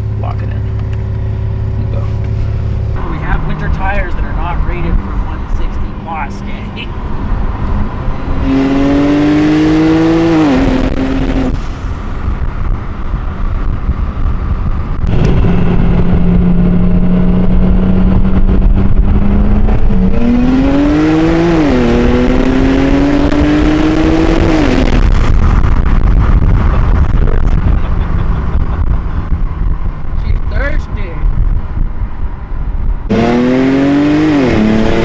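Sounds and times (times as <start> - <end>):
car engine accelerating hard: 0.0 - 31.8, 33.0 - 35.0.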